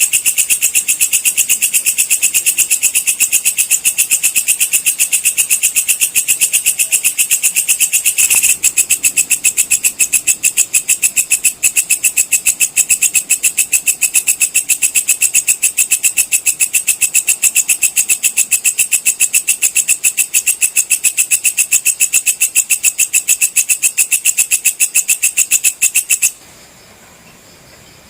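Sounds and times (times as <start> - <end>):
katydid chirping: 0.0 - 26.4.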